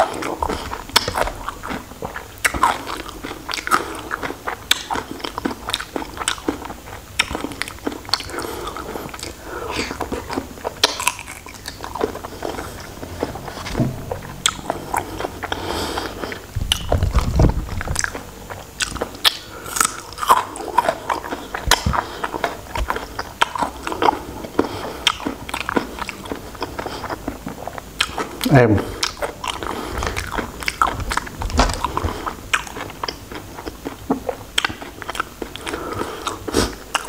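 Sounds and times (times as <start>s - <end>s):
wet chewing and lip smacks: 0.0s - 37.0s.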